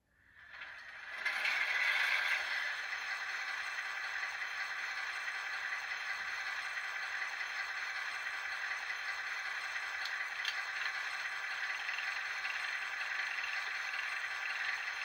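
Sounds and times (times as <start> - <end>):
model diesel engine idling sound: 0.4 - 15.0.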